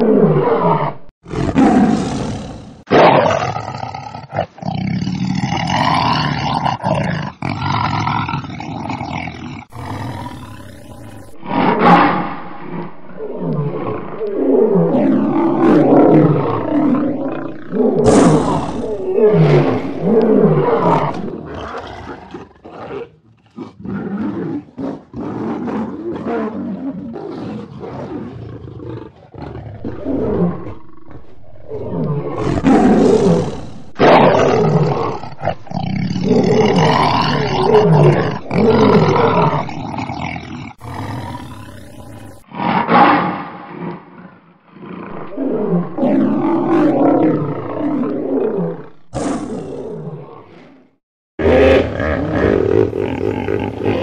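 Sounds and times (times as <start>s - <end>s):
lions roaring: 0.0s - 54.0s.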